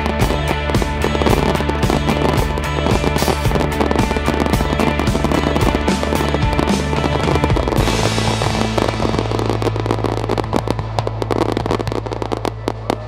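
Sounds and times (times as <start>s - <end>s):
fireworks popping and crackling: 0.0s - 13.0s
steady low tone: 0.0s - 13.0s.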